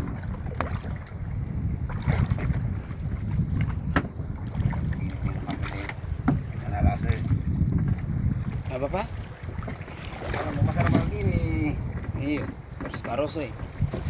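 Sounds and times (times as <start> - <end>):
knocks from boat: 0.0 - 1.1, 1.9 - 14.0
wind buffeting microphone: 0.0 - 14.0.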